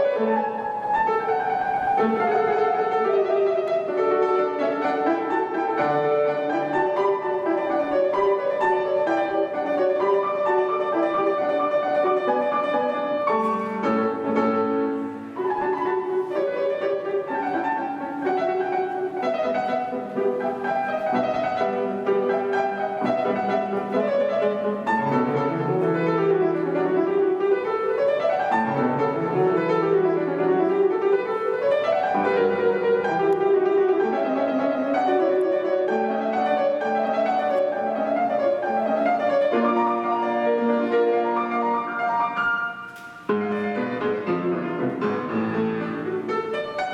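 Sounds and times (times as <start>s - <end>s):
solo classical piano: 0.0s - 46.9s.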